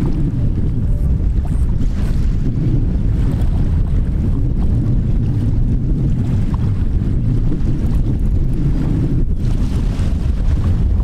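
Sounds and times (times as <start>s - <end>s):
small waves washing on beach: 0.0s - 11.0s
wind rumbling on microphone: 0.0s - 11.0s.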